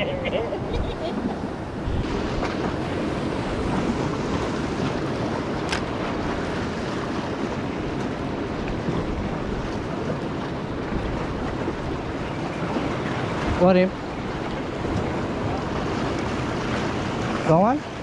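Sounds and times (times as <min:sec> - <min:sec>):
surf washing against rocks: 0:00.0 - 0:18.0
wind buffeting microphone: 0:00.0 - 0:18.0.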